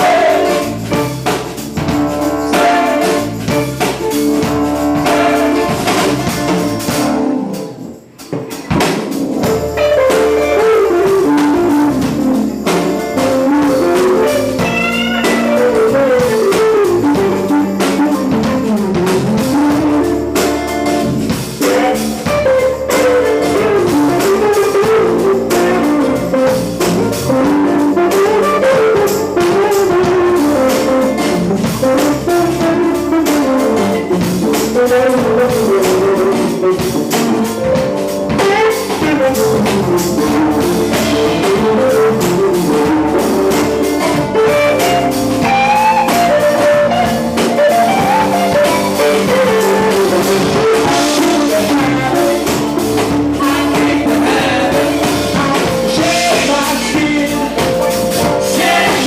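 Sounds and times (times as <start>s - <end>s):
melodic lead line: 0.0s - 8.2s, 9.2s - 59.0s
live band playing: 0.0s - 59.0s.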